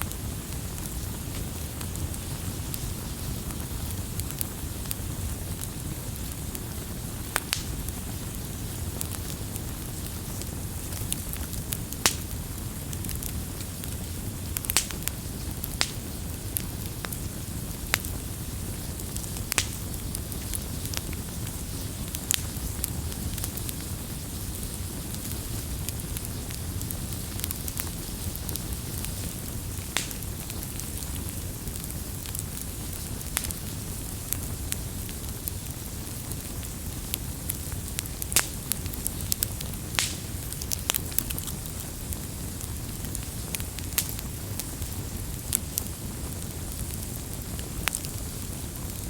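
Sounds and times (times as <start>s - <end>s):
campfire flames hissing: 0.0s - 49.0s
fire crackles and pops: 0.0s - 49.0s.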